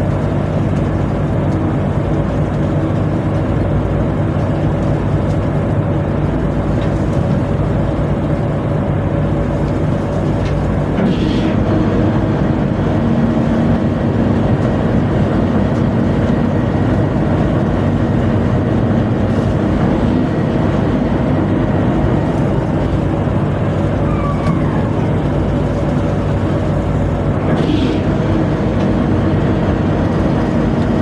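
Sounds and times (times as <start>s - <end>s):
diesel machinery droning: 0.0s - 31.0s.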